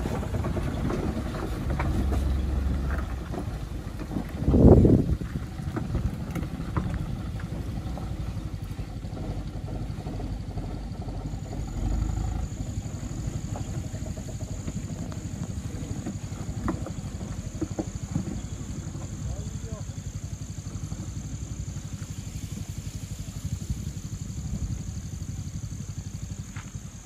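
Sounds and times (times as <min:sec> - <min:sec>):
diesel truck engine labouring: 0:00.0 - 0:27.0.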